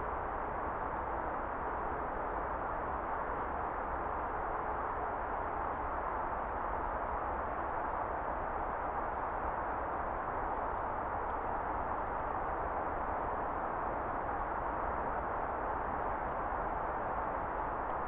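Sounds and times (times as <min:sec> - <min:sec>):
steady rushing hiss: 0:00.0 - 0:18.0.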